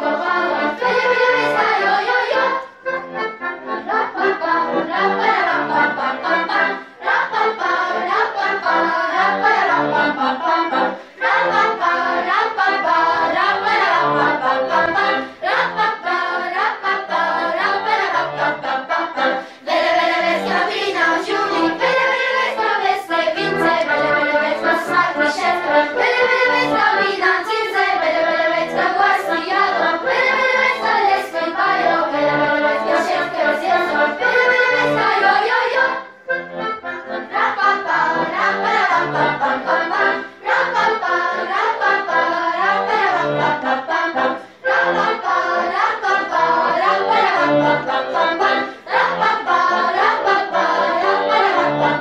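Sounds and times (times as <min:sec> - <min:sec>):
children's choir singing: 0:00.0 - 0:52.0.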